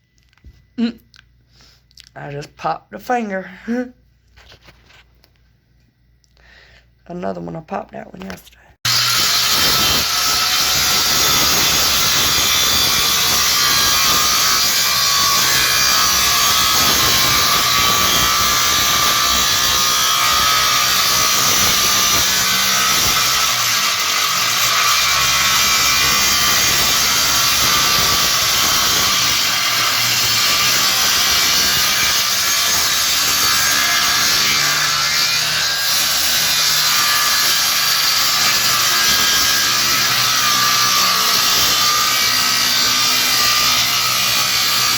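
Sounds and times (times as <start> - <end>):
power saw cutting wood: 8.8 - 44.9.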